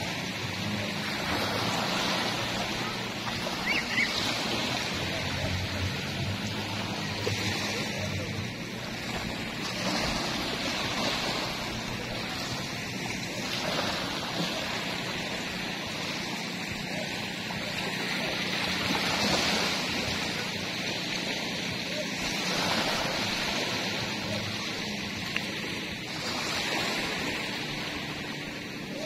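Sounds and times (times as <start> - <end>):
sea waves lapping on shore: 0.0 - 29.0.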